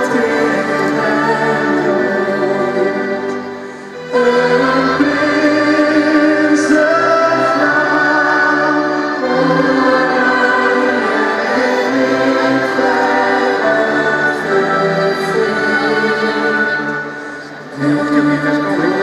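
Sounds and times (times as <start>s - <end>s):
choir singing sustained chords: 0.0s - 19.0s
person singing into microphone: 0.0s - 19.0s.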